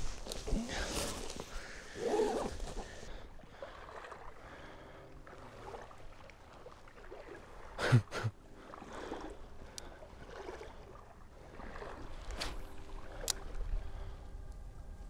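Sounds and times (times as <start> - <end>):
water sloshing in a creek: 0.0 - 15.0.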